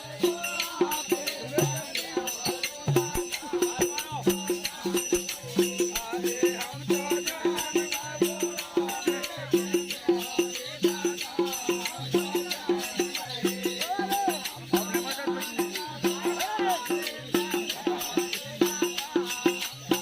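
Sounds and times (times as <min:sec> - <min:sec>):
drum beating fast rhythm: 0:00.0 - 0:20.0
jingling rattle: 0:00.0 - 0:20.0.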